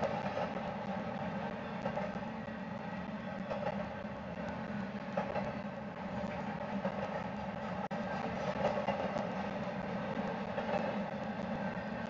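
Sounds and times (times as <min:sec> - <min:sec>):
steel wheels rumbling on rail: 0:00.0 - 0:12.0.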